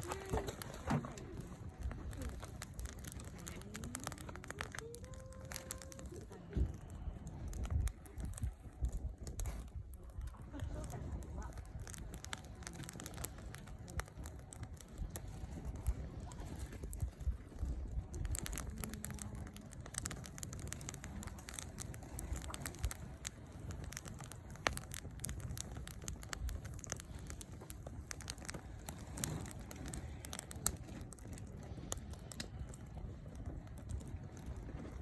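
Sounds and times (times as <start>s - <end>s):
low rumble: 0.0s - 35.0s
wood fire crackling and popping: 0.0s - 35.0s.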